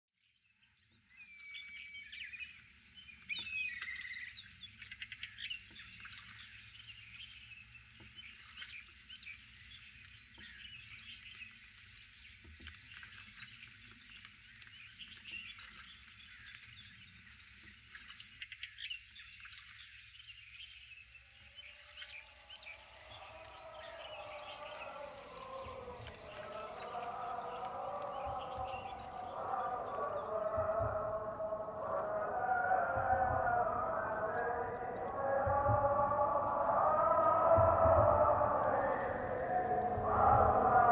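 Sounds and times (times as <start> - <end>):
small birds chirping: 0.3 - 40.9.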